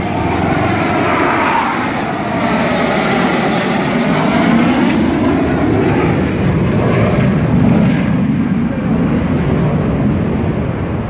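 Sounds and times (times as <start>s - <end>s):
jet passing low overhead: 0.0s - 11.0s.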